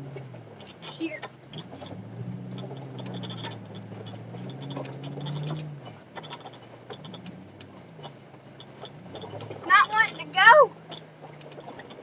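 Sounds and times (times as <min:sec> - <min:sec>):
vehicle engine from inside cab: 0:00.0 - 0:12.0
sharp clicks and ticks: 0:00.6 - 0:12.0.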